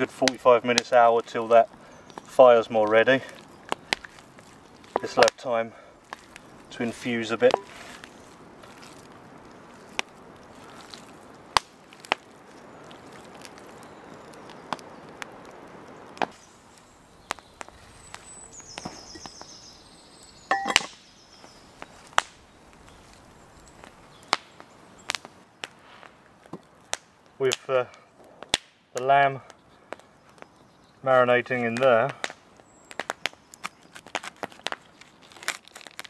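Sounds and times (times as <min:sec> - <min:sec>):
sharp pops and snaps: 0:00.0 - 0:06.8, 0:07.4 - 0:19.6, 0:20.6 - 0:30.7, 0:31.6 - 0:36.0
campfire crackling: 0:00.0 - 0:36.0.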